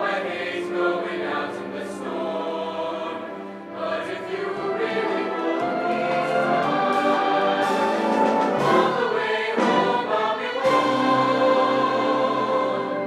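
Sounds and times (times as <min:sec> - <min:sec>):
choir singing with orchestra: 0:00.0 - 0:13.0.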